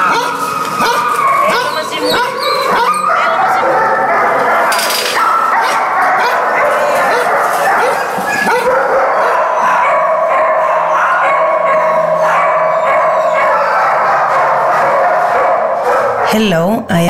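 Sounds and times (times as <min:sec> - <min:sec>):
dogs barking and howling: 0:00.0 - 0:16.3.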